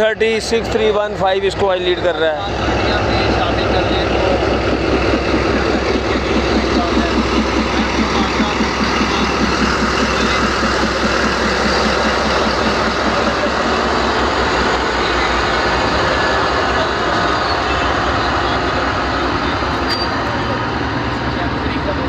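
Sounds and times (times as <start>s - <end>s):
diesel train rumbling: 0.0s - 22.0s
rapid low throb: 0.6s - 19.7s.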